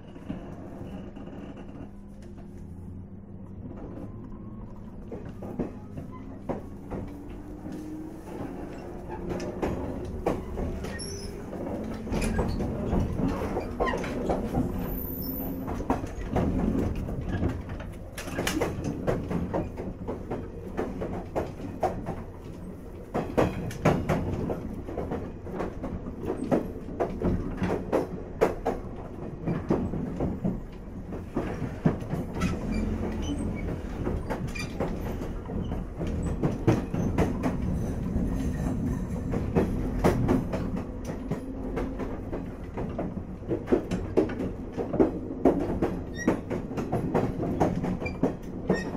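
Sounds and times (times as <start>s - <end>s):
train rumble: 0.0s - 48.9s
wheels clacking over rail joints: 5.0s - 48.9s.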